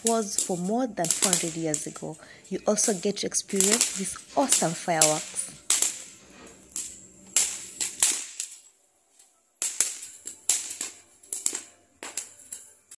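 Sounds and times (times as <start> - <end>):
fireworks bangs and crackling pops: 0.0 - 2.2, 2.8 - 8.8, 9.6 - 12.9.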